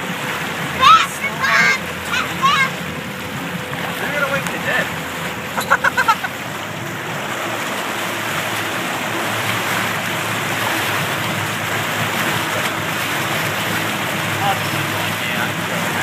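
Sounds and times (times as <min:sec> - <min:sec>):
churning boat wake and wind: 0:00.0 - 0:16.0
low engine hum: 0:00.0 - 0:16.0.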